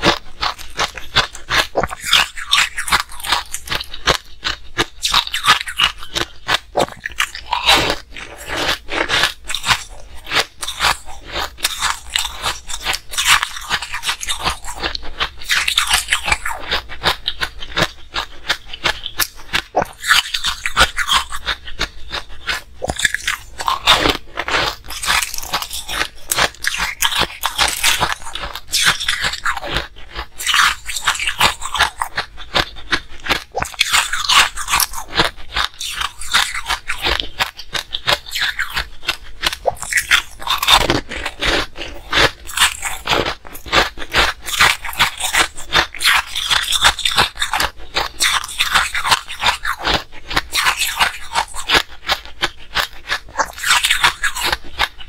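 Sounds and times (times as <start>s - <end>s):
ice crunching between teeth: 0.0s - 55.0s.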